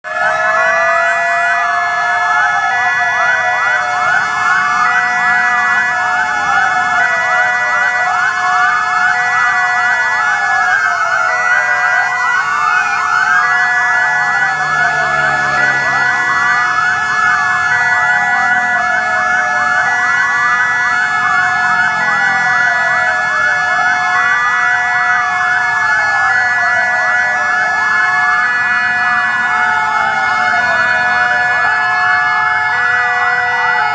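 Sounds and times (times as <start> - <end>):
rapid yelp siren: 0.0 - 33.9
two-tone hi-lo siren: 0.0 - 33.9
wailing siren: 0.0 - 33.9
siren winding up: 0.1 - 33.9.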